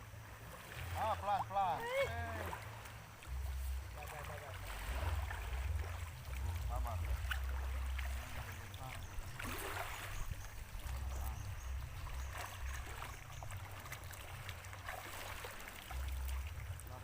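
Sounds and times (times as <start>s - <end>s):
water lapping and splashing: 0.0s - 17.0s.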